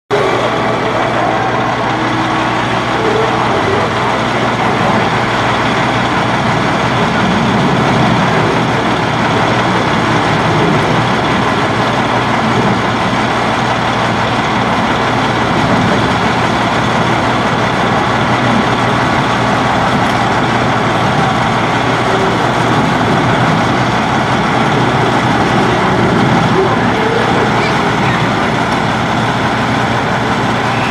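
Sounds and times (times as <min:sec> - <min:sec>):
diesel truck engine running: 0:00.0 - 0:30.9
people talking: 0:00.1 - 0:13.0, 0:14.0 - 0:29.0, 0:30.4 - 0:30.9.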